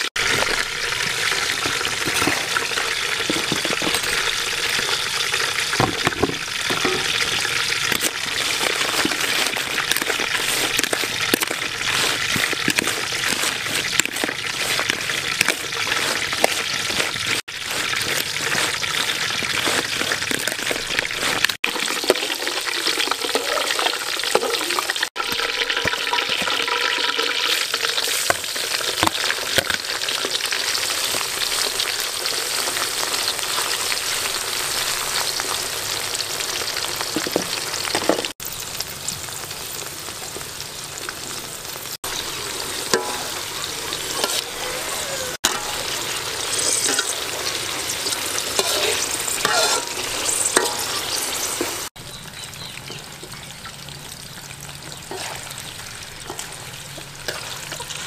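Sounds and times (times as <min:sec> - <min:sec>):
food sizzling in a wok: 0:00.0 - 0:58.0.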